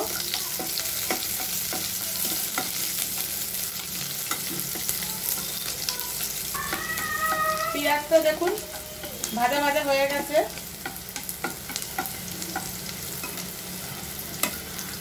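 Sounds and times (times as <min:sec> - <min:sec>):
spatula scraping and tapping pan: 0:00.0 - 0:06.0, 0:06.6 - 0:13.5, 0:14.3 - 0:14.7
onion sizzling in oil: 0:00.0 - 0:15.0.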